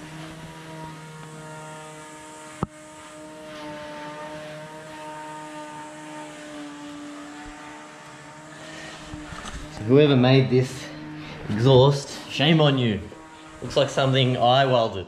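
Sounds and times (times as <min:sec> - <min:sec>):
engine drone with wavering tone: 0:00.0 - 0:15.0.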